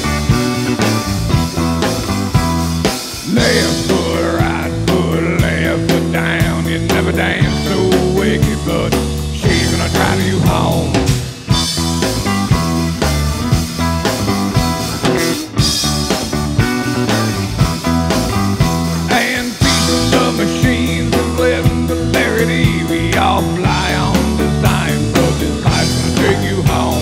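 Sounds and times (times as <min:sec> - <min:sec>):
electric guitar bending: 0:00.0 - 0:27.0
rock band playing: 0:00.0 - 0:27.0.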